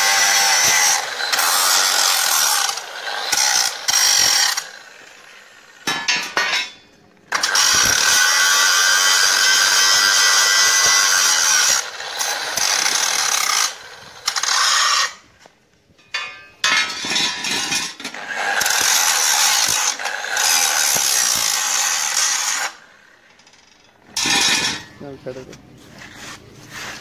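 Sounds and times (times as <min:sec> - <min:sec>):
angle grinder grinding steel: 0:00.0 - 0:15.2, 0:16.2 - 0:25.0.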